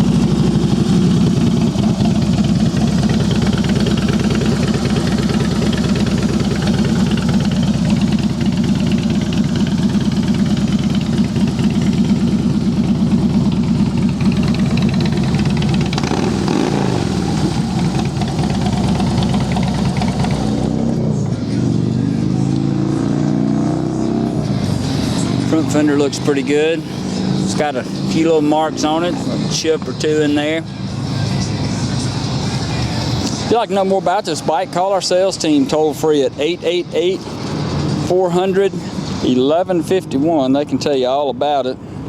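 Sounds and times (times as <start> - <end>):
motorcycle engine idling: 0.0 - 23.1, 24.0 - 41.0.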